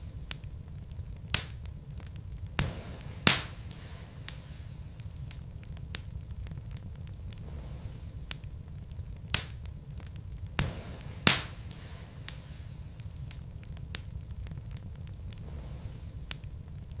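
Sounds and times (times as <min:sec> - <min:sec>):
burning logs crackling and popping: 0:00.0 - 0:17.0
low rumble of fire: 0:00.0 - 0:17.0.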